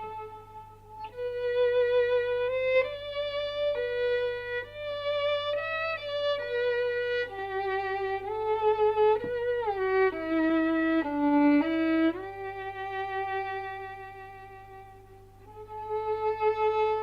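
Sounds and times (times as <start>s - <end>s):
solo violin slow melody: 0.0s - 17.0s.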